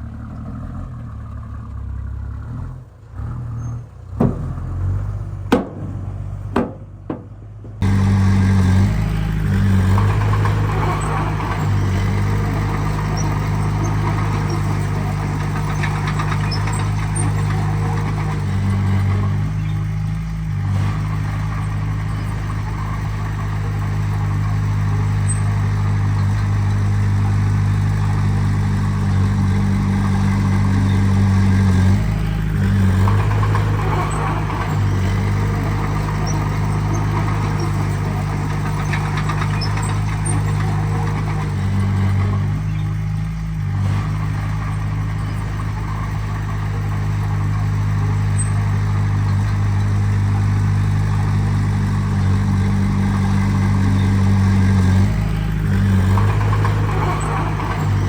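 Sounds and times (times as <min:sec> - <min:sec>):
heavy diesel engine idling: 0:03.9 - 0:58.0.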